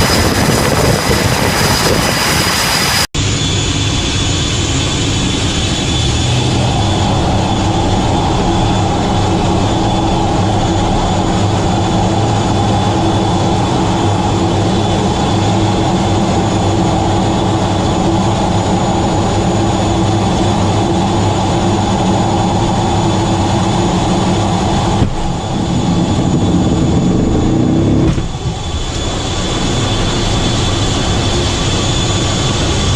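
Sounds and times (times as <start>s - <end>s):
aircraft engines droning: 0.0s - 32.9s
high turbine whine: 0.0s - 32.9s.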